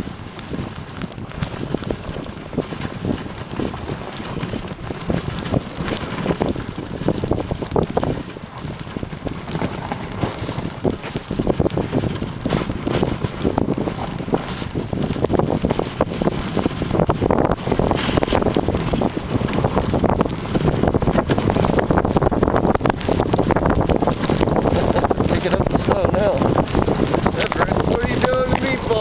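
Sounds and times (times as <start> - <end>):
sled knocks and scrapes: 0.0 - 29.0
wind buffeting microphone: 0.0 - 29.0.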